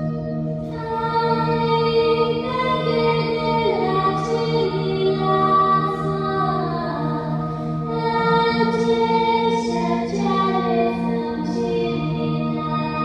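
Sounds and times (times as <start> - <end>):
slow singing in long notes: 0.0 - 13.0.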